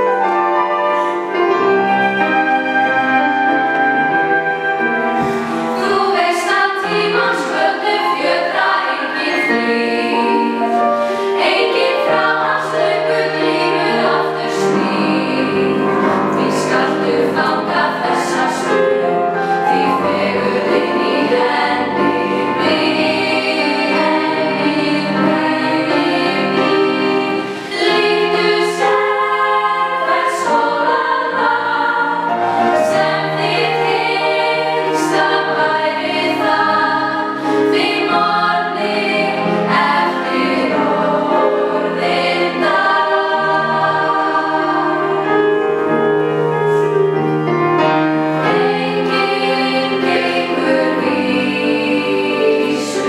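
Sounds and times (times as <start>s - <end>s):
women's choir singing: 3.3s - 46.8s, 48.3s - 53.0s.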